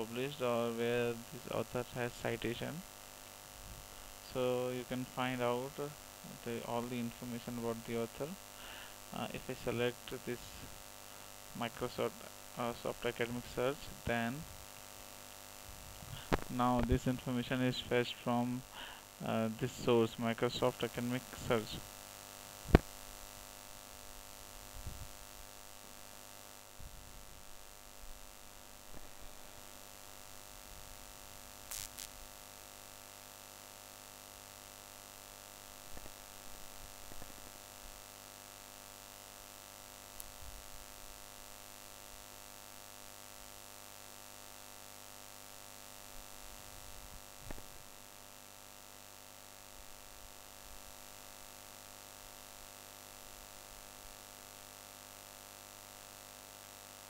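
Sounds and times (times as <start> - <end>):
electrical mains hum and hiss: 0.0 - 57.0.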